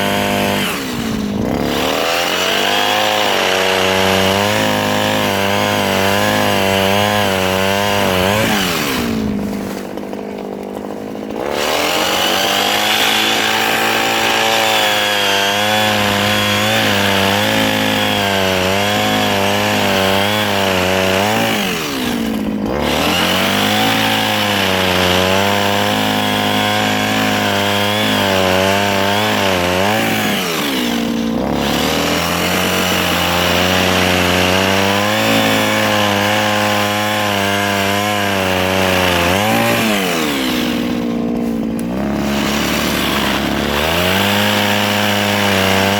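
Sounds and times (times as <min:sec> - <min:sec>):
mini chainsaw cutting wood: 0:00.0 - 0:45.9.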